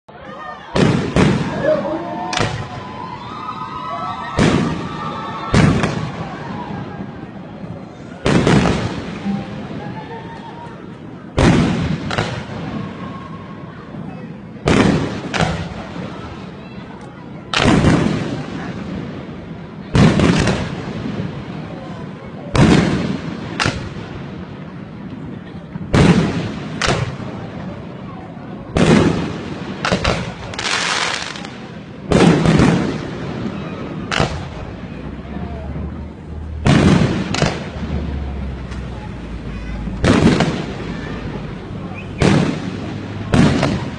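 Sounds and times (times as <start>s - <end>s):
fireworks bangs: 0.6s - 43.9s.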